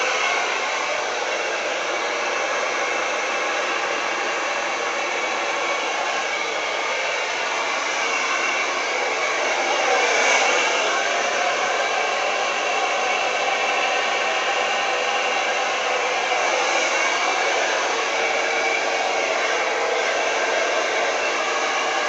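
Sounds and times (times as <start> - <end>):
hair dryer blowing: 0.0 - 22.0.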